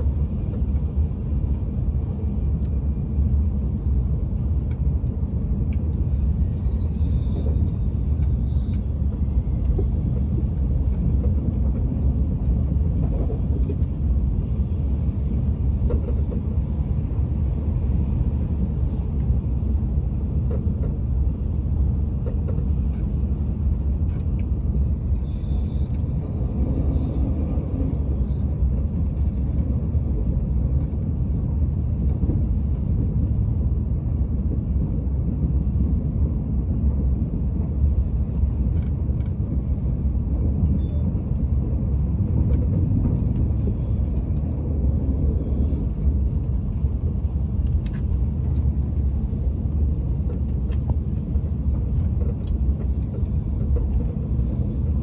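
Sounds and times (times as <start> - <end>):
train low rumble from inside: 0.0 - 55.0.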